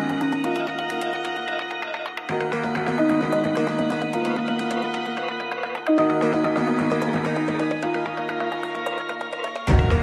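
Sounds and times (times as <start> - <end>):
music with held notes: 0.0 - 10.0
ticking beat: 0.0 - 10.0.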